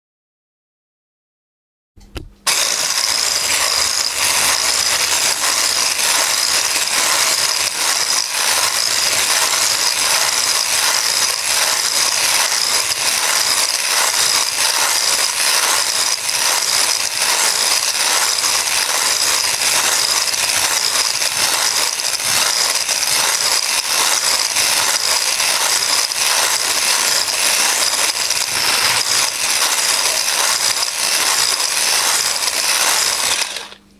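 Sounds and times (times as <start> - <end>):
electric hand whisk running: 2.5 - 33.9.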